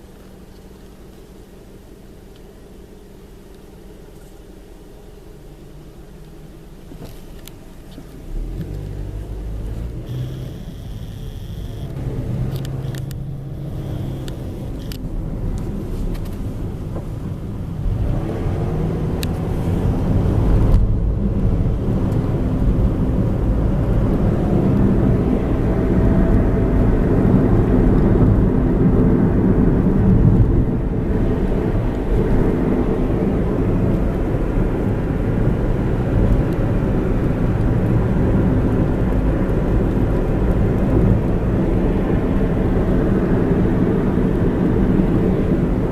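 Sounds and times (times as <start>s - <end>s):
car engine and tyres droning: 0.0s - 45.9s.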